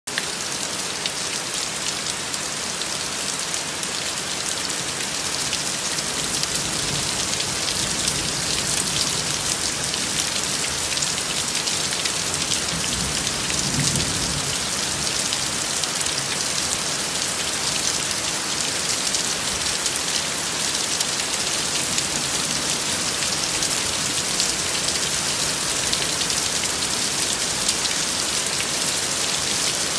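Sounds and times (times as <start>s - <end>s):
steady rain falling: 0.1s - 29.9s.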